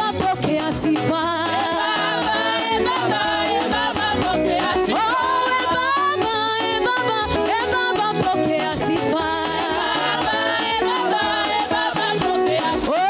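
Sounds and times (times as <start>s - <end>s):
band playing steady beat: 0.0s - 13.0s
woman singing gospel song: 0.0s - 13.0s.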